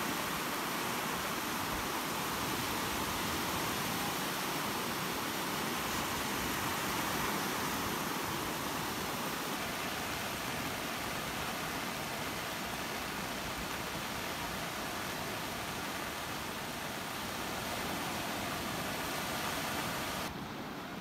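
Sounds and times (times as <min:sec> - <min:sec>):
waves breaking on sand: 0:00.0 - 0:21.0.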